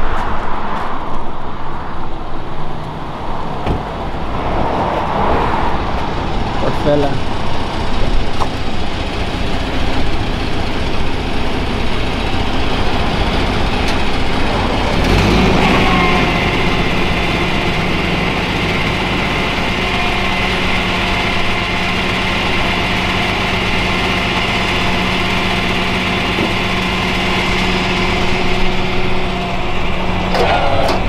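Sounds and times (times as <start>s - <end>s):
road traffic noise: 0.0s - 31.0s
truck engine idling: 5.1s - 31.0s.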